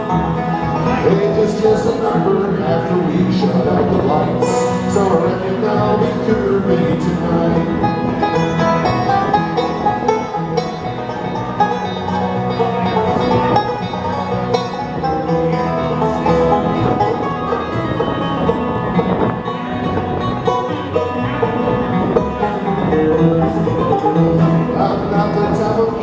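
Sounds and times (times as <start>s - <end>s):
banjo: 0.0s - 26.0s
guitar: 0.0s - 26.0s.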